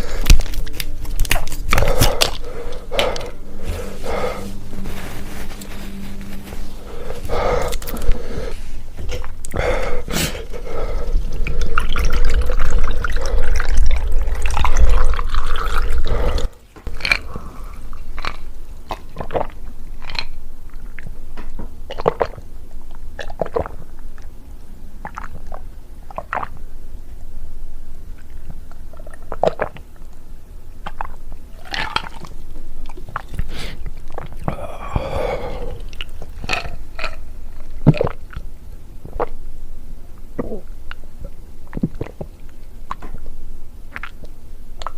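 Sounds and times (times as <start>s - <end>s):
wet eating mouth sounds: 0.0s - 5.8s, 6.8s - 21.1s, 23.2s - 24.3s, 25.0s - 26.6s, 28.1s - 29.9s, 30.8s - 39.4s, 40.3s - 44.9s.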